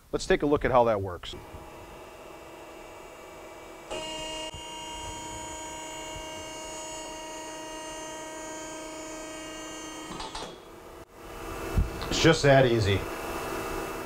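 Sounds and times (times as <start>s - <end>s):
hydraulic power unit whining: 1.3s - 14.0s.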